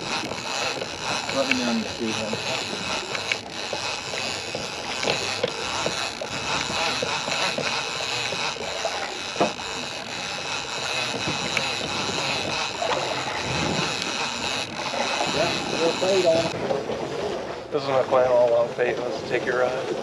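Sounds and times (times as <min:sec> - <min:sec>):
fishing reel being cranked: 0:00.0 - 0:16.6.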